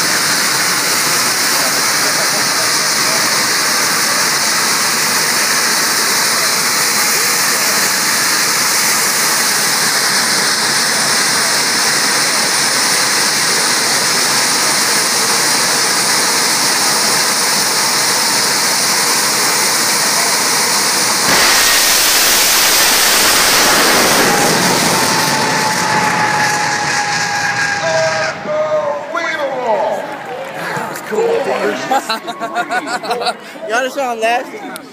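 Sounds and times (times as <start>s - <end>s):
rocket car launch blast: 0.0s - 28.5s
rocket car engine hissing roar: 0.0s - 29.2s.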